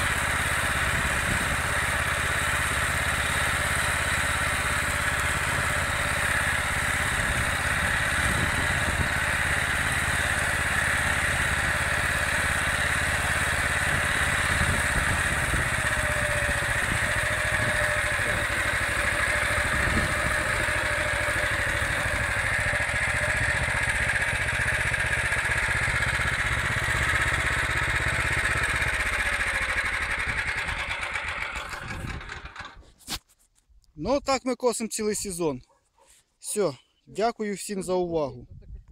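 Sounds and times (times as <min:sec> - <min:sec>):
rotary mower cutting: 0:00.0 - 0:33.0
walk-behind tractor running: 0:00.0 - 0:33.2.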